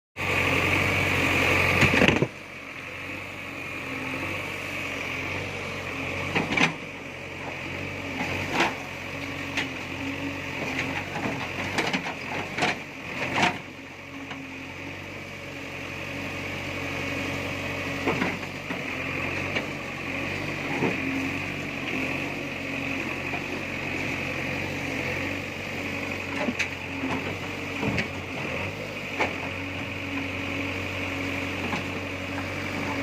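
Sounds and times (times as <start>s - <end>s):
diesel engine running: 0.2s - 33.0s.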